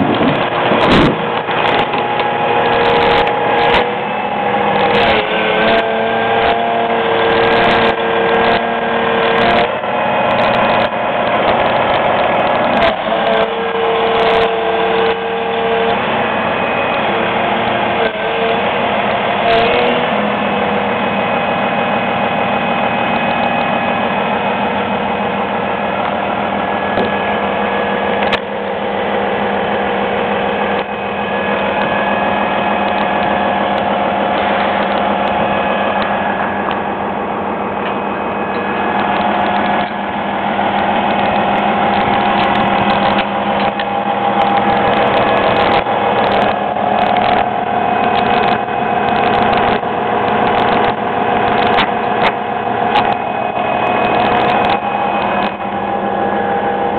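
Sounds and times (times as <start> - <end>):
excavator diesel engine running: 0.0 - 56.9
steel tracks clanking: 0.0 - 56.9.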